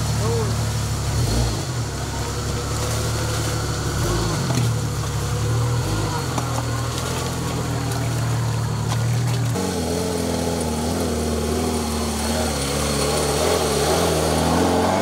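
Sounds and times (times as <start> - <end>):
vehicle engine running at low revs: 0.0 - 15.0.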